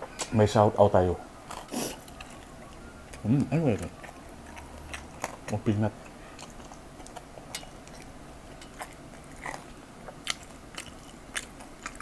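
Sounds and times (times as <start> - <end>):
chewing fried rice: 1.4 - 12.0.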